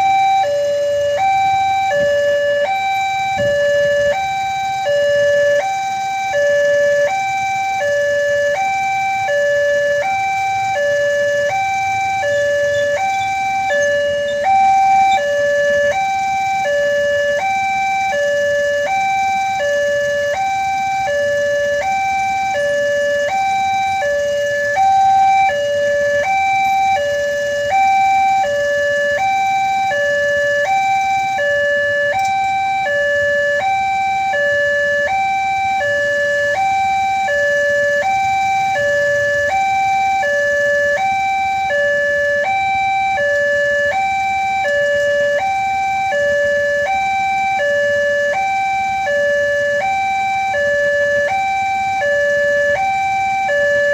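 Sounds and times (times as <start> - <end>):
level crossing two-tone alarm: 0.0 - 53.9.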